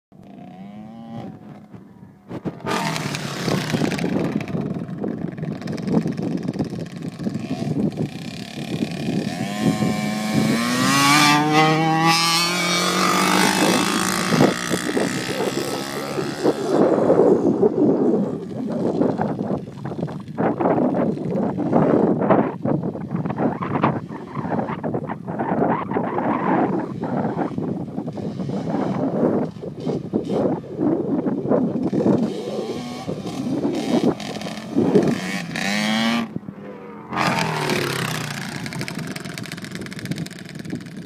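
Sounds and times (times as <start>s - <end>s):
dirt bikes revving: 0.2s - 22.7s, 23.4s - 41.0s.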